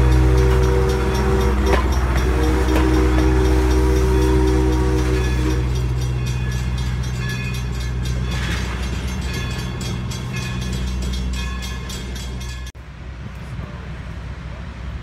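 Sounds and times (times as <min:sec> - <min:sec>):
outdoor background: 0:00.0 - 0:15.0
train coaches rumbling past: 0:00.0 - 0:15.0.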